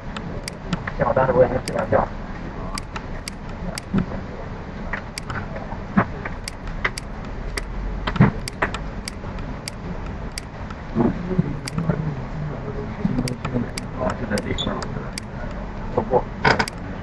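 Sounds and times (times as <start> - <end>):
sharp clicks: 0.0 - 2.0, 2.7 - 4.2, 5.0 - 11.0, 11.6 - 12.0, 13.0 - 17.0
background hiss and hum: 0.0 - 17.0.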